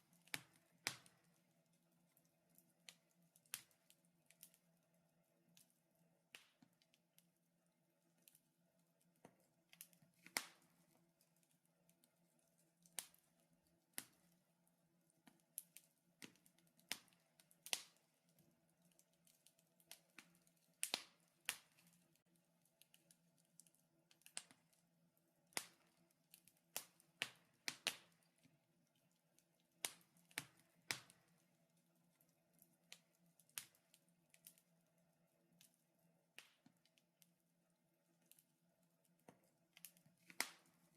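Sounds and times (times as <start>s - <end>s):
wood fire crackling and popping: 0.0s - 7.3s, 9.0s - 14.4s, 15.1s - 37.3s, 38.0s - 40.9s.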